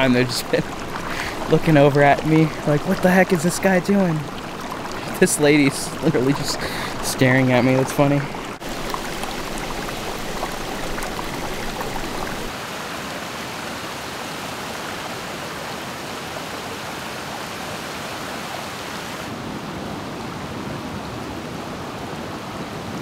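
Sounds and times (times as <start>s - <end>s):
rushing flowing water: 0.0s - 23.0s.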